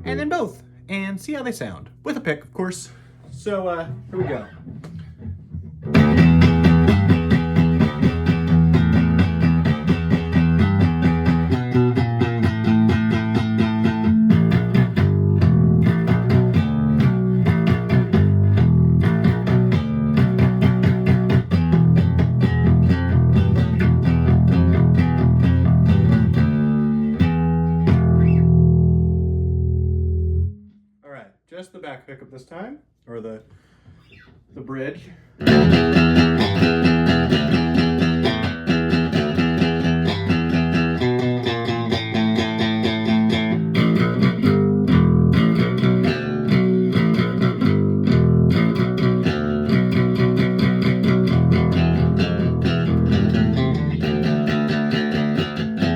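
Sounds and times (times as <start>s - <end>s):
electric bass picked notes: 0.0s - 31.0s, 35.4s - 55.9s.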